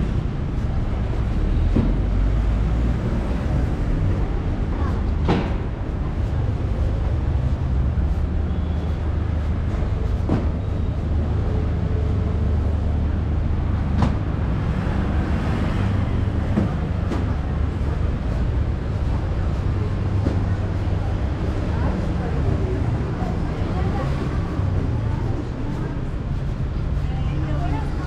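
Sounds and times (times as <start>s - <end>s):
low traffic rumble: 0.0s - 28.0s.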